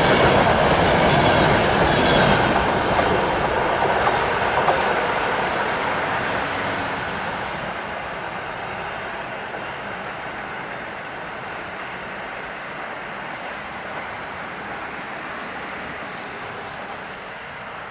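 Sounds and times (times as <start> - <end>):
train wheels rumbling on rails: 0.0 - 17.9.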